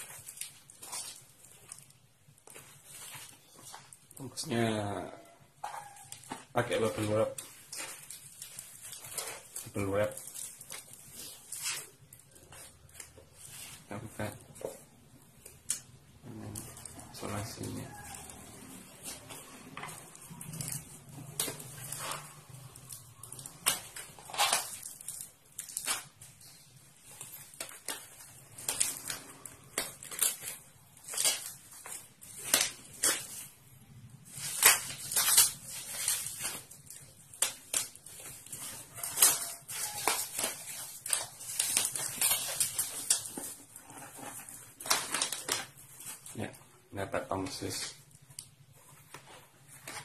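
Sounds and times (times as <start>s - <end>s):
plastic packaging crinkling: 0.0s - 4.9s, 5.6s - 50.0s.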